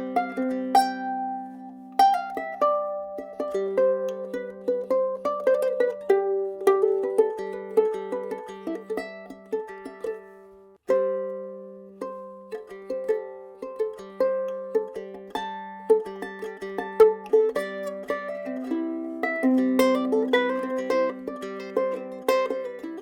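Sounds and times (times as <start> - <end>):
fingerpicked ukulele melody: 0.0 - 23.0.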